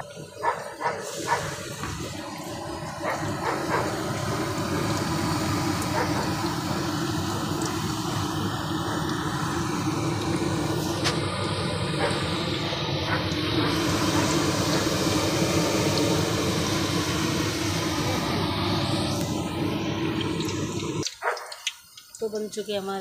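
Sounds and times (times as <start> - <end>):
oil sizzling in a wok: 0.0 - 23.0.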